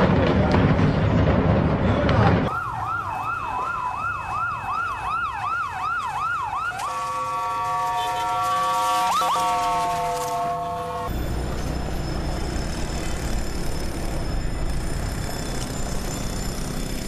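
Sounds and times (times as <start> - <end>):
emergency vehicle siren: 2.5 - 17.0.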